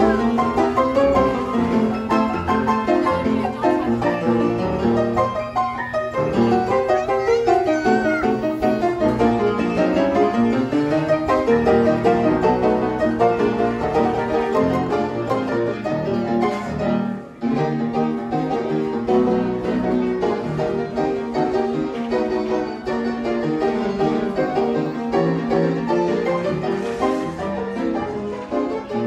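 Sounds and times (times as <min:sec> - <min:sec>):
classical piano music: 0:00.0 - 0:29.0.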